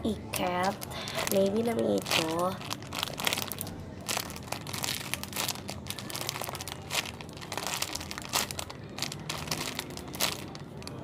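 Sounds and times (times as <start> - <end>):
plastic wrapper crinkling: 0.3 - 11.0.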